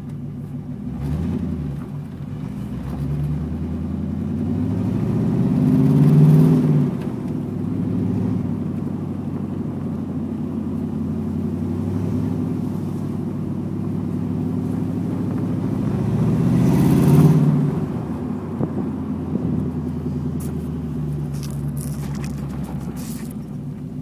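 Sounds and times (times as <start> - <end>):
car engine drone from inside cabin: 0.0 - 24.0.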